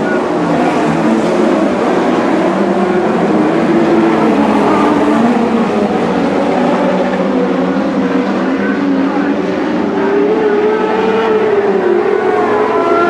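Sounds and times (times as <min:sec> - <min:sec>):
race car engines running: 0:00.0 - 0:13.0.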